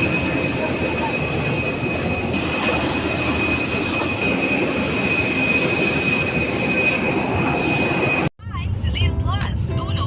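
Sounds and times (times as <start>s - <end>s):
high-pitched whine: 0.0s - 8.3s.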